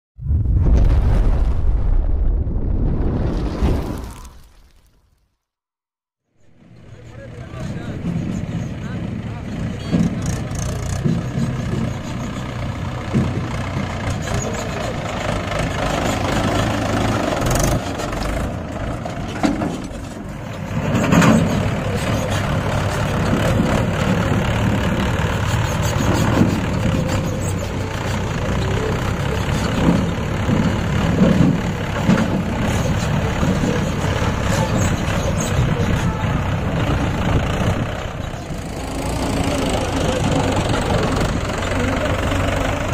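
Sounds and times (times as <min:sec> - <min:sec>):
tractor diesel engine running: 0:06.4 - 0:42.9.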